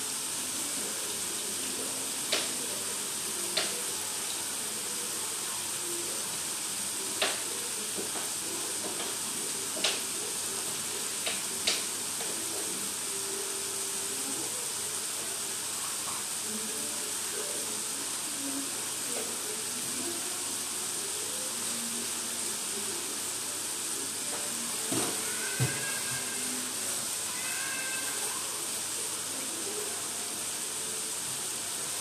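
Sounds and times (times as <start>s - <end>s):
oil sizzling in a wok: 0.0s - 32.0s.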